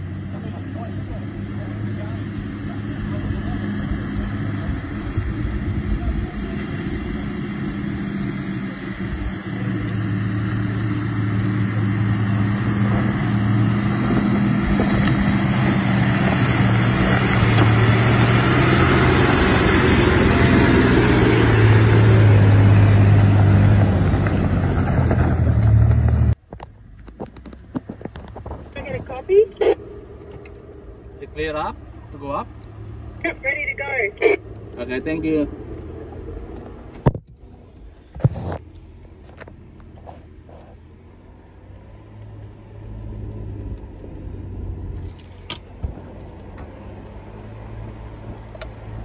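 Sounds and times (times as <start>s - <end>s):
vehicle engine labouring: 0.0s - 49.0s.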